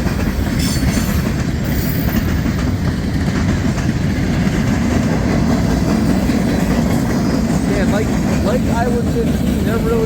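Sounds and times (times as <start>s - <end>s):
clickety-clack over rail joints: 0.0s - 10.0s
freight train wheels rumbling: 0.0s - 10.0s.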